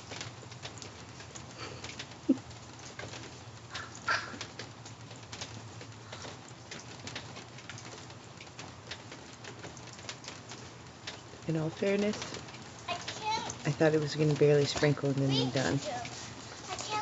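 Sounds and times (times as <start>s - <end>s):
rain drips pattering: 0.0s - 17.0s.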